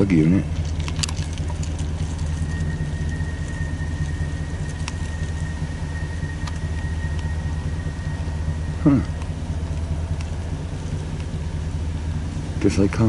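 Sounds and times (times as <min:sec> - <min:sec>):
engine idling: 0:00.0 - 0:13.0
faint high whine: 0:00.0 - 0:13.0.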